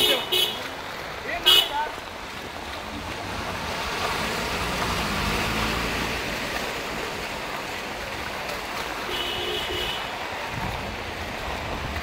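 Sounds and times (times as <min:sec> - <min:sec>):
heavy rain and floodwater rushing: 0:00.0 - 0:12.0
tyres washing through water: 0:00.0 - 0:12.0.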